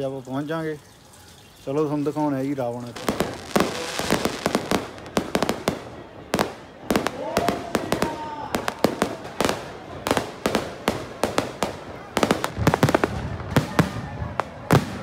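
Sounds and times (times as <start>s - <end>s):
fireworks bangs and crackles: 1.8s - 15.0s.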